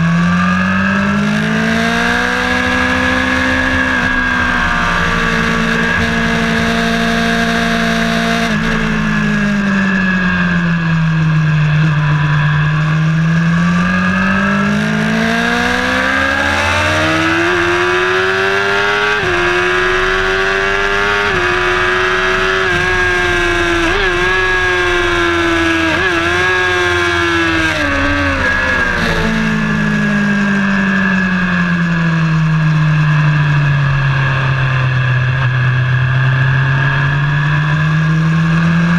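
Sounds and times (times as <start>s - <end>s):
car engine revving at speed: 0.0s - 38.9s
steady high whine: 0.0s - 38.9s.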